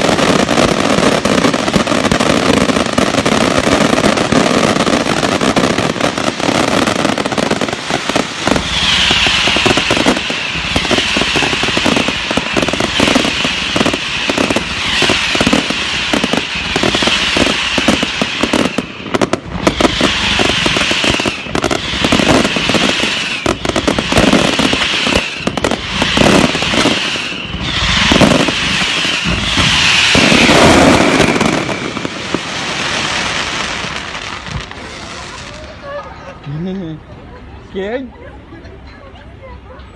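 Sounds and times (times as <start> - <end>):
falling firework whistles: 0.0 - 35.8
fireworks crackling bangs: 0.0 - 36.6.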